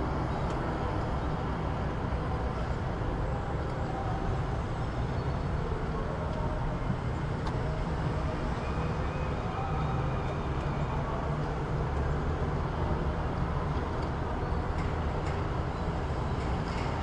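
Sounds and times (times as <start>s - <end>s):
road traffic rumble: 0.0s - 17.0s
vehicles passing by: 0.0s - 17.0s.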